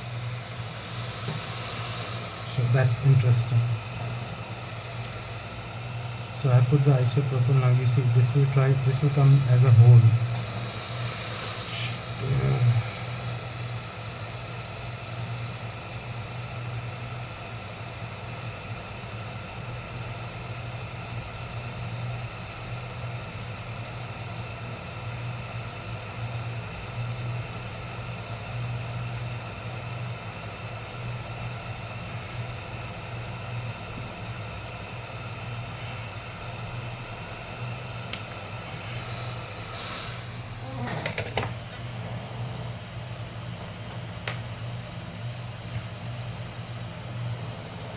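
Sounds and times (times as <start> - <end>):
hot-air blower humming: 0.0 - 47.9.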